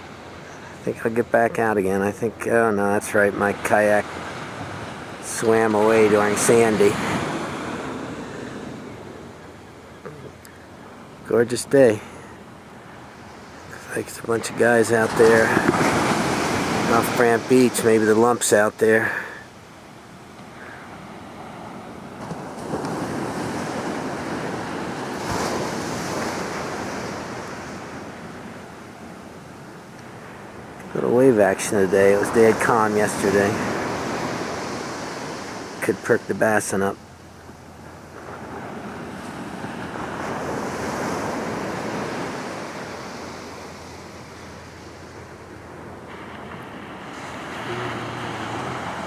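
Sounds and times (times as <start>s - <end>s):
small waves breaking on sand: 0.0s - 49.0s.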